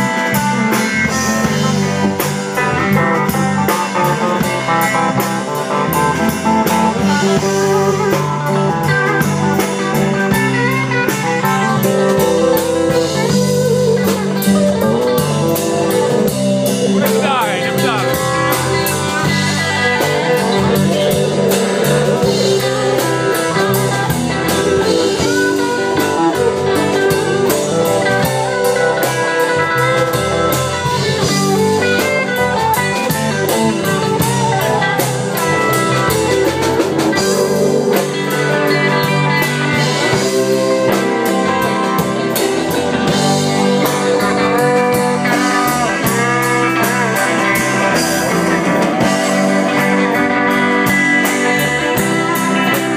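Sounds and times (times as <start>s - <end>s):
drum kit beat: 0.0s - 52.9s
electric guitar playing: 0.0s - 52.9s.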